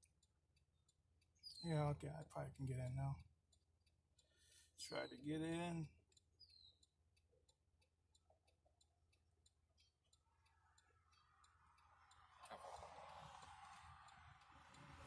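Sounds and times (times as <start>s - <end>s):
faint even ticking: 0.0s - 15.0s.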